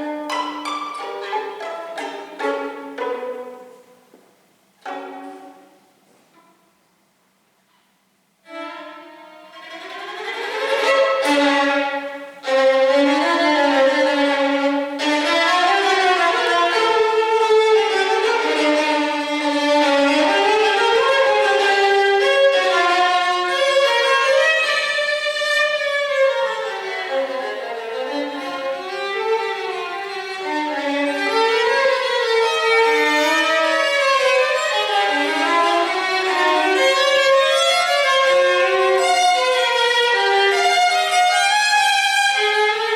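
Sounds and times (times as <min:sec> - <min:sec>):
violin melody: 0:00.0 - 0:04.2, 0:04.8 - 0:06.9, 0:08.4 - 0:42.9.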